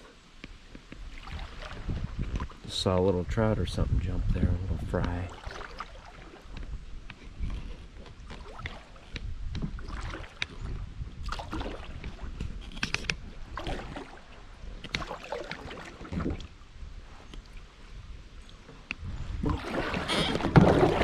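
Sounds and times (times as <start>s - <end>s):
paddle splashing in water: 0.7s - 2.6s, 5.0s - 17.7s, 18.7s - 21.0s.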